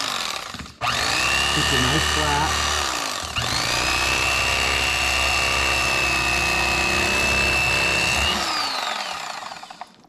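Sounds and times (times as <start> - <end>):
electric fillet knife whining: 0.0 - 10.0.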